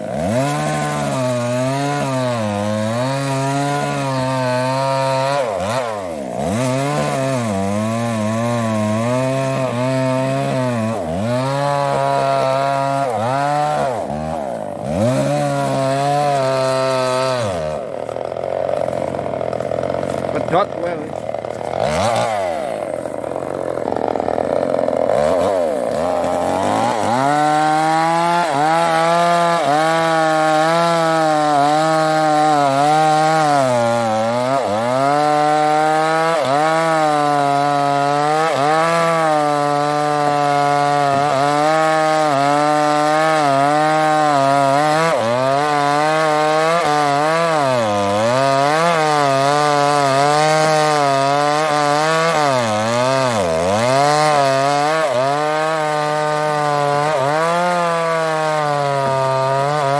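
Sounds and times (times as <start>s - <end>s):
chainsaw cutting through wood: 0.0s - 59.9s.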